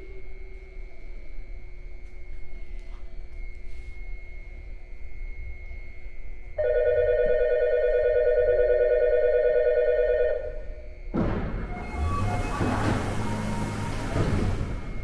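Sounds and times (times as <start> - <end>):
low hum of underground station: 0.0 - 15.0.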